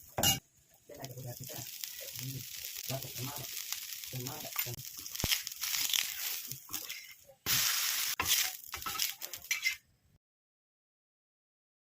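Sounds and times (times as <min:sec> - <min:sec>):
dosa sizzling on a griddle: 0:00.0 - 0:09.9.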